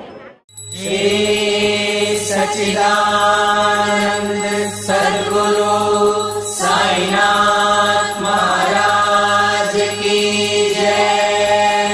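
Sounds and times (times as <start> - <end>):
mantra chanted in song: 0.8 - 11.9.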